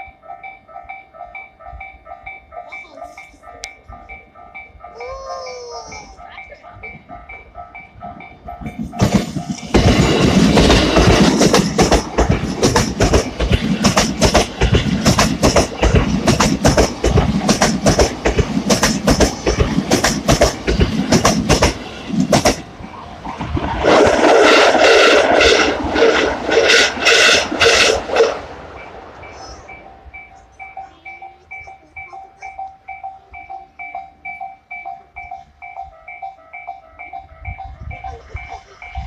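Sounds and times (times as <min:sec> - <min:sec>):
train rumbling past: 0:00.0 - 0:39.0
wheels clacking over rail joints: 0:00.0 - 0:39.0.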